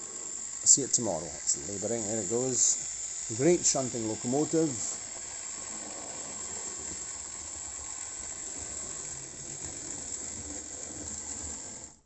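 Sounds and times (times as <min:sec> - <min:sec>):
model train motor and gears whirring: 0:00.0 - 0:12.0.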